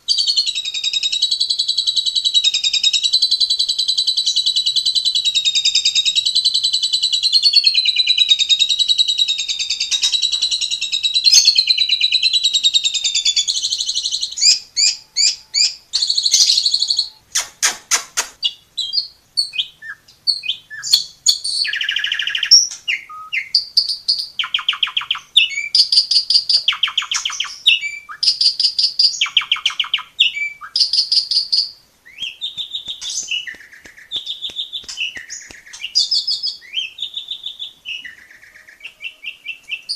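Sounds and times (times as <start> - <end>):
bird singing varied song: 0.0 - 17.5, 18.4 - 39.9.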